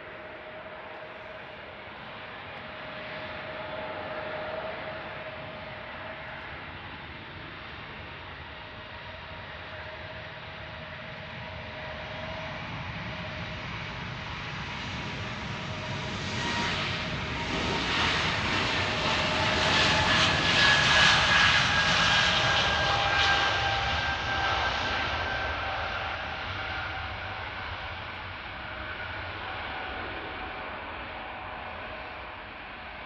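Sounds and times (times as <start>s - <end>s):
jet airliner taking off: 0.0s - 33.0s.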